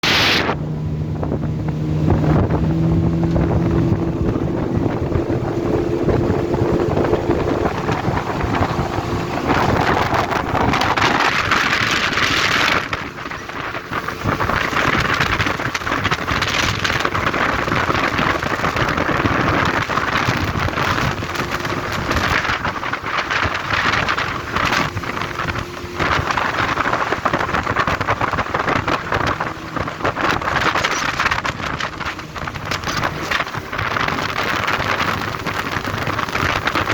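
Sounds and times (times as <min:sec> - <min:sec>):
outboard motor running: 0:00.0 - 0:36.9
rushing water: 0:00.0 - 0:36.9
wind buffeting microphone: 0:00.0 - 0:36.9.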